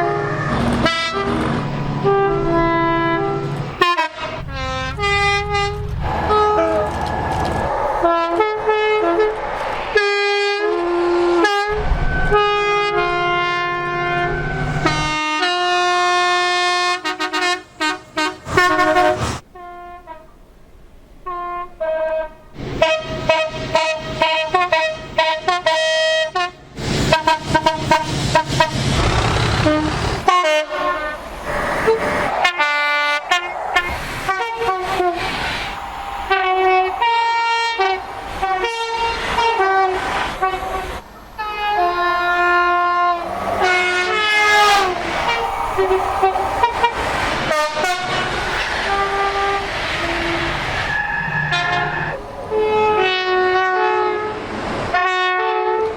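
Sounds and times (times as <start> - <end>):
train horn blasts: 0.0 - 7.0, 10.0 - 20.4, 21.2 - 28.8, 29.6 - 35.2, 35.9 - 50.5, 51.4 - 55.9
passing train rushing: 0.0 - 19.6, 22.1 - 55.9.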